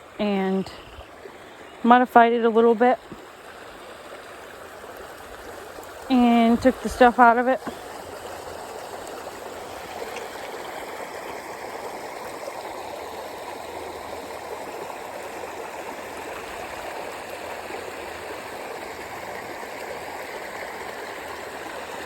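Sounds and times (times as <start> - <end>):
small waterfall rushing: 0.8 - 22.0.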